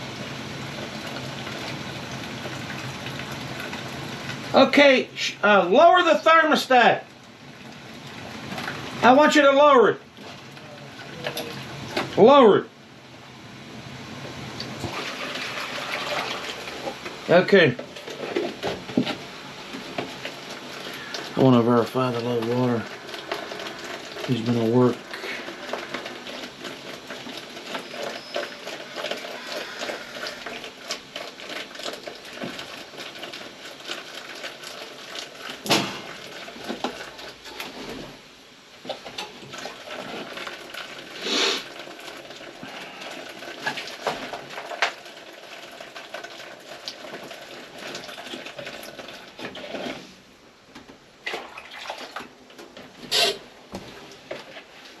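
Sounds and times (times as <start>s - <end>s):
water rushing from drain: 0.0s - 12.3s, 13.4s - 50.3s, 51.1s - 55.0s.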